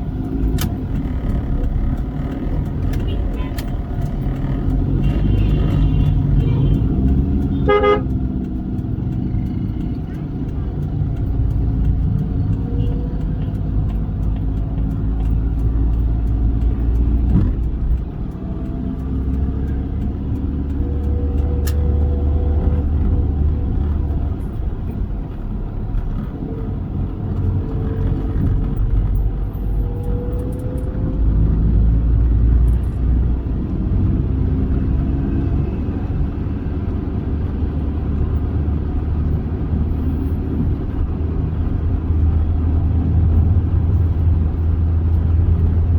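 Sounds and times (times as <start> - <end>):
car engine rumble: 0.0 - 45.9
road noise: 0.0 - 45.9.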